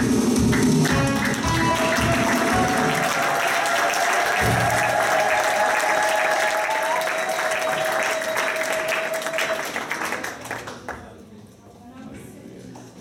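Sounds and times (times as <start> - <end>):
congregation applauding: 0.2 - 11.2.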